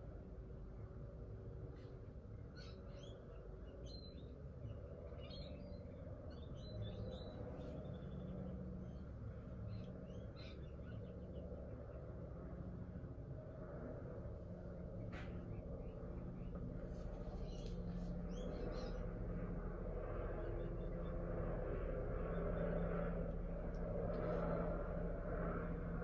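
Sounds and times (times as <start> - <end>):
low background rumble: 0.0 - 26.0
faint birds chirping: 0.5 - 25.6.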